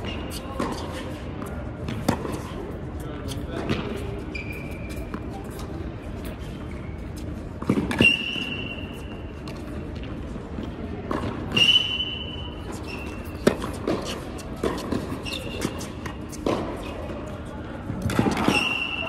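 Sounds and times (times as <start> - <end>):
sneakers squeaking on court: 0.0 - 10.3, 11.1 - 19.0.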